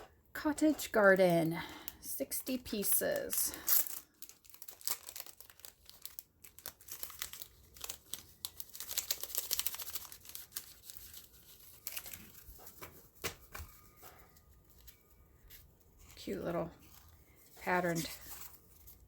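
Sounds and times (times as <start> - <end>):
craft papers crinkling and rustling: 0.6 - 19.0.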